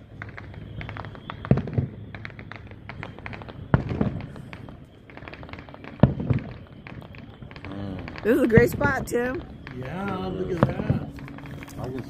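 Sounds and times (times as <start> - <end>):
crackling firework pops: 0.0 - 12.0
firework shells booming: 0.0 - 12.0.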